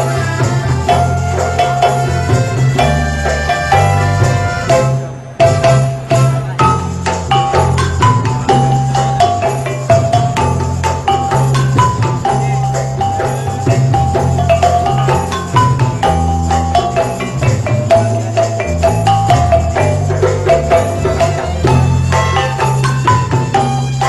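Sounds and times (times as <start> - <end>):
upbeat background music: 0.0 - 24.0.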